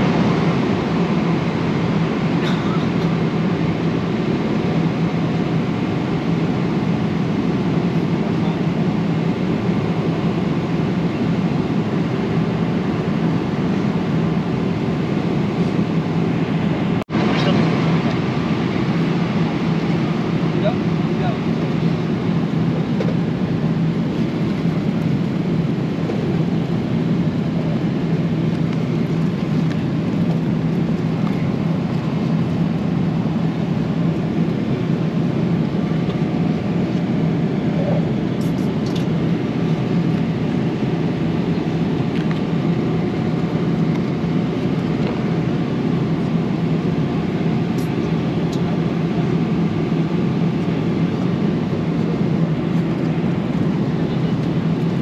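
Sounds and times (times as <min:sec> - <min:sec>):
airplane cabin roar: 0:00.0 - 0:55.0
steady low hum: 0:00.0 - 0:55.0.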